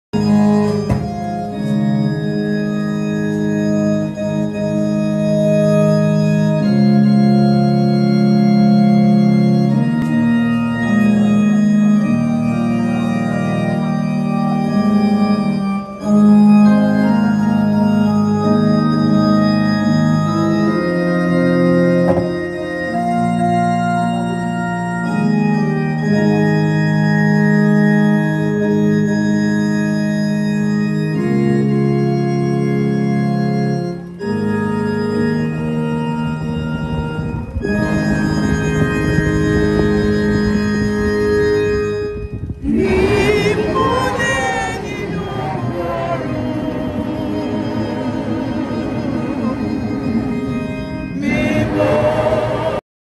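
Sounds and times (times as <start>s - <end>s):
slow organ chords: 0.1s - 52.8s.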